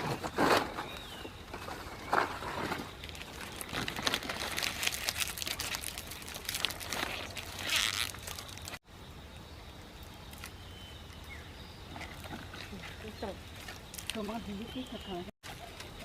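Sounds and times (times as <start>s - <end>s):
leaves and branches rustling: 0.0s - 8.8s, 9.9s - 16.0s.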